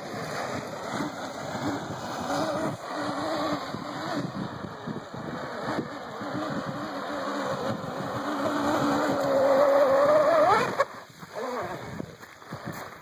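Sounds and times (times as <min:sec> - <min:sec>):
rc boat motor whine: 0:00.0 - 0:13.0.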